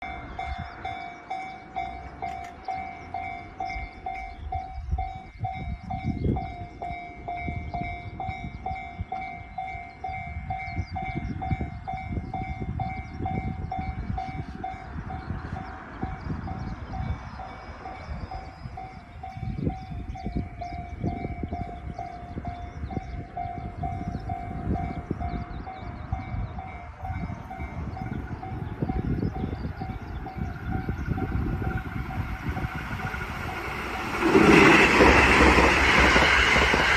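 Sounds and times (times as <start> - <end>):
railroad crossing bell dinging: 0.0 - 36.9
train rumbling: 0.0 - 36.9.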